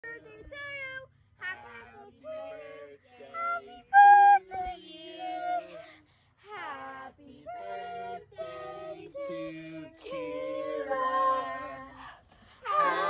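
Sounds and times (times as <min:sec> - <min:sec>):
group of voices singing: 0:01.4 - 0:13.0.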